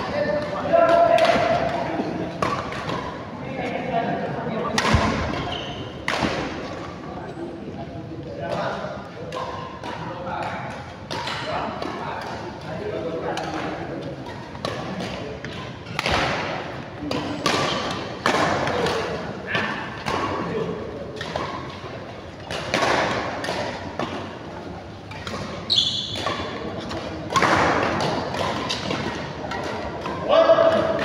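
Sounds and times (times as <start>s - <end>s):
rackets striking shuttlecock: 0.2s - 3.2s, 4.7s - 6.8s, 8.5s - 31.0s.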